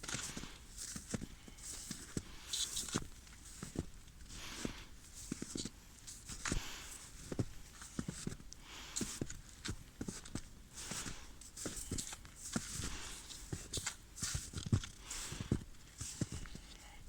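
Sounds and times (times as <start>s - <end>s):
footsteps crunching on rough surface: 0.0s - 16.7s.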